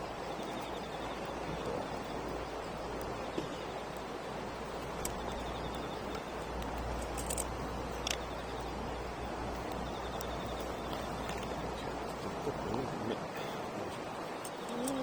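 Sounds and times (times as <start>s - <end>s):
campfire crackling and popping: 0.0s - 15.0s
outdoor hiss and low rumble: 0.0s - 15.0s.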